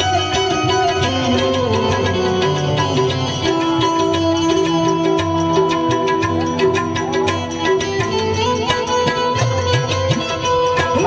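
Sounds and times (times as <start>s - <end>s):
hand drum rhythm: 0.0s - 11.0s
harmonium sustained notes: 0.0s - 11.0s.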